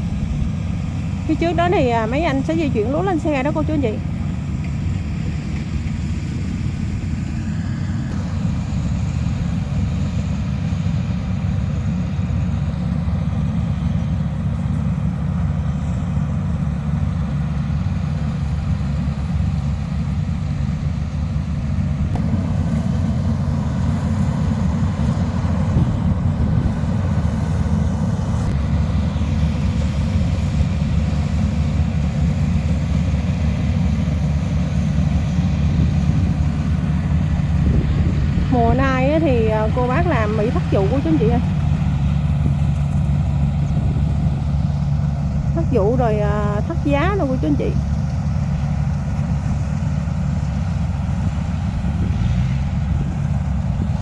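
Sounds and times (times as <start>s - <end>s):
farm machine engine droning: 0.0s - 54.0s.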